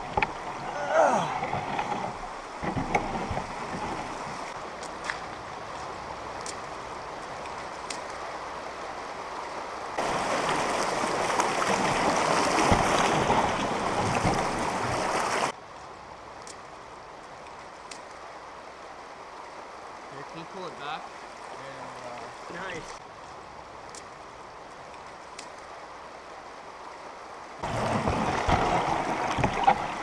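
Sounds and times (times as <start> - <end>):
flowing water: 0.0 - 30.0.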